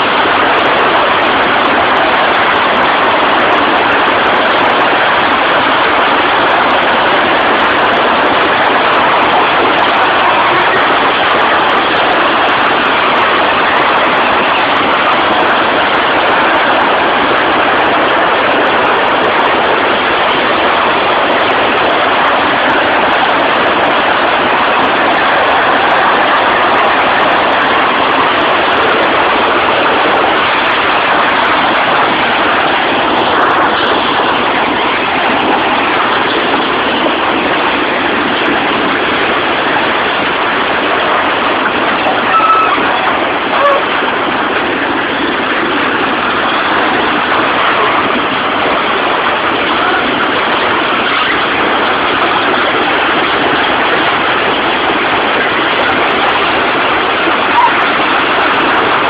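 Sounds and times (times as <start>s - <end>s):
loud steady rushing noise: 0.0s - 59.0s.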